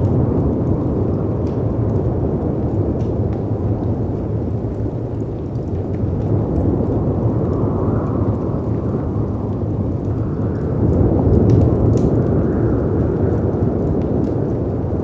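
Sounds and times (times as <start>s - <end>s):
faint wood fire crackles: 0.0s - 15.0s
storm wind rumble: 0.0s - 15.0s.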